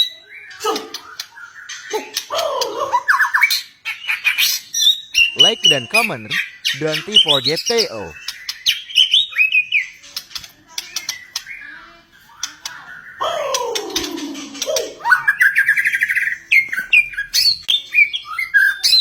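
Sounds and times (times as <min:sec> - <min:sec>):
songbird whistles and chirps: 0:00.0 - 0:19.0.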